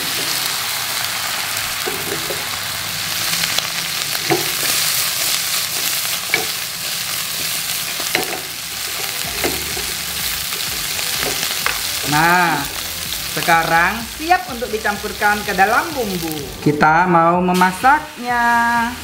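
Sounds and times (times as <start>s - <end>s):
meat sizzling in a wok: 0.0s - 19.0s.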